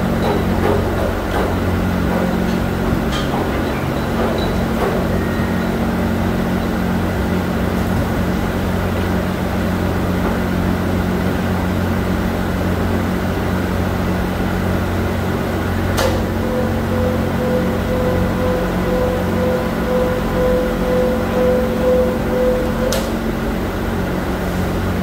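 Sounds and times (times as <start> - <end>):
factory machinery humming: 0.0 - 25.0.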